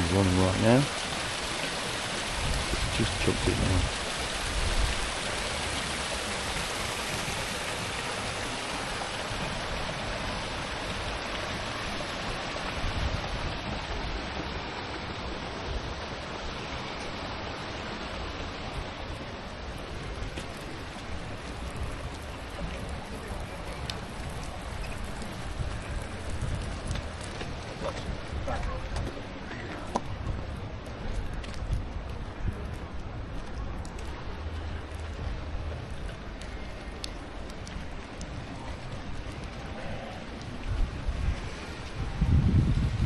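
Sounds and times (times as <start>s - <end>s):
water rushing down a channel: 0.0s - 43.0s.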